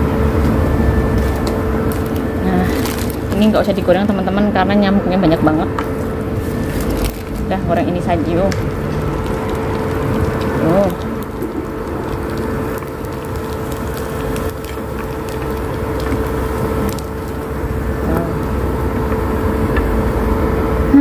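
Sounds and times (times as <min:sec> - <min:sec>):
oil sizzling and crackling: 0:00.0 - 0:04.3, 0:05.7 - 0:20.9
steady low hum: 0:00.0 - 0:21.0.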